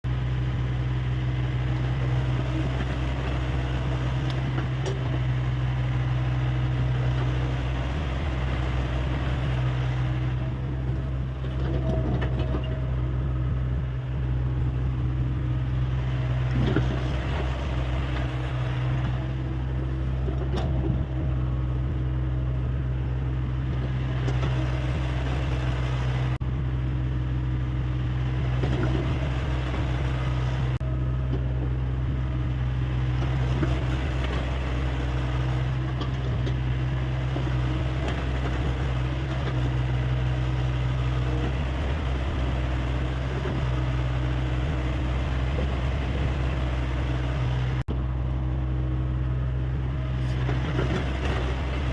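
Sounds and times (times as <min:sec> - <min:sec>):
diesel engine humming: 0:00.0 - 0:51.9.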